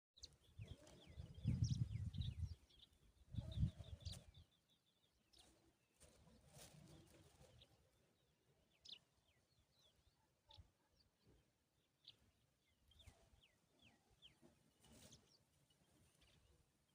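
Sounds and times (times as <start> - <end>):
small birds chirping: 0.2 - 16.9.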